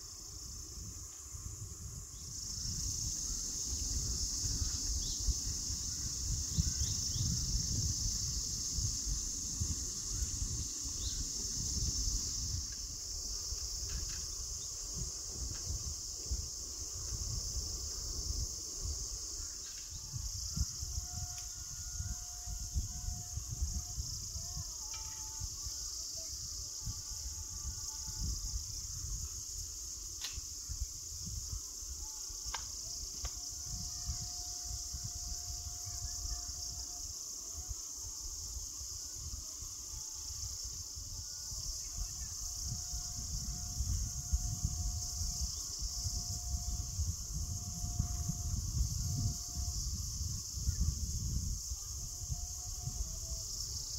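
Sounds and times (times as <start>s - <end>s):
forest insects chorus: 0.0s - 53.9s.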